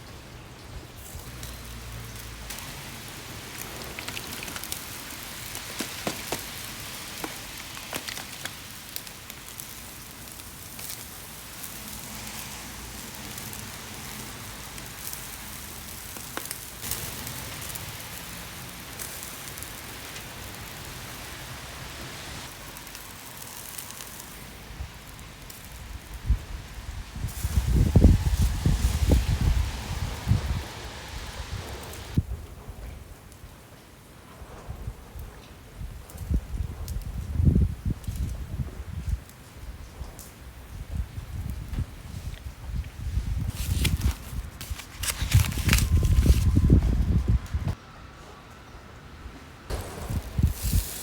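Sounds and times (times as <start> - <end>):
wood fire crackling: 0.0 - 32.4, 35.2 - 47.8, 49.7 - 51.0.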